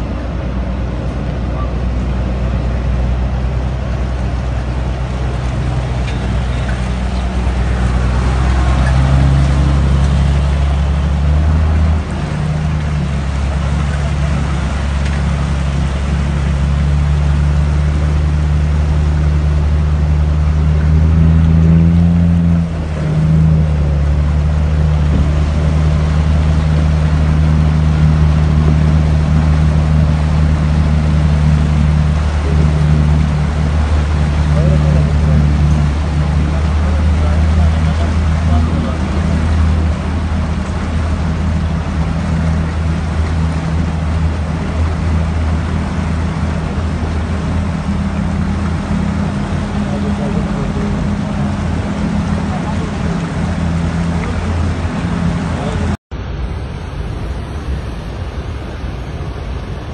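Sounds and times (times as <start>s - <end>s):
engine running at low revs: 0.0s - 59.9s
floodwater rushing: 0.0s - 59.9s.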